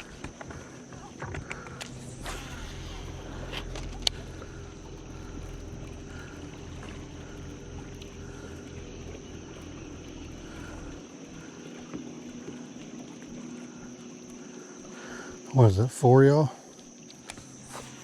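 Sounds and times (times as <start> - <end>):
boat motor rumbling: 0.0 - 18.0
high insect drone: 0.0 - 18.0.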